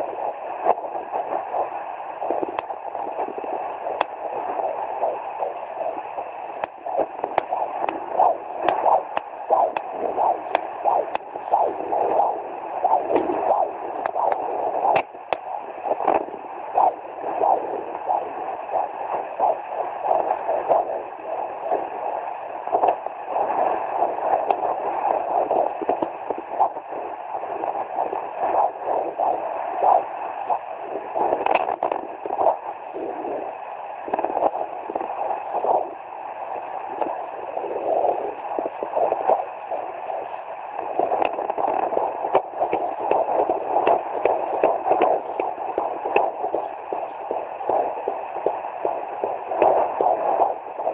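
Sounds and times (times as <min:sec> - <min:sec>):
fetal heartbeat pulsing on doppler: 0:00.0 - 0:50.9
steady static: 0:00.0 - 0:50.9.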